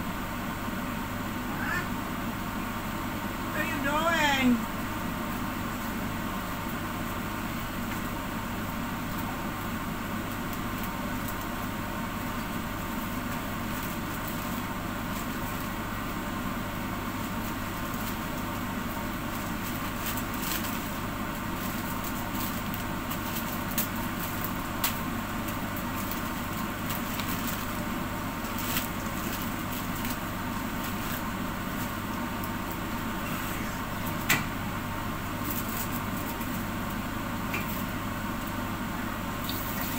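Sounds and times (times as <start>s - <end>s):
pot simmering with hiss: 4.7s - 39.9s.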